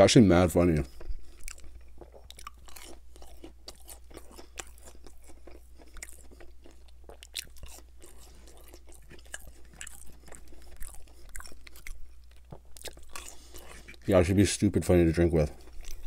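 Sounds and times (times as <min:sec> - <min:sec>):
faint low hum: 0:00.0 - 0:16.0
crunchy chewing: 0:00.4 - 0:14.4, 0:15.1 - 0:16.0.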